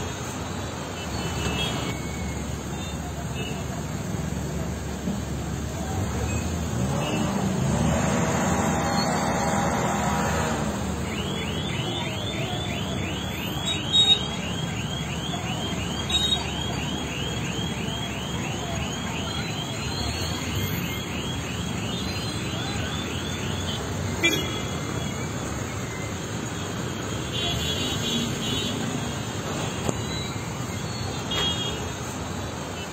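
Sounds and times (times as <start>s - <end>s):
road traffic: 0.0s - 32.9s.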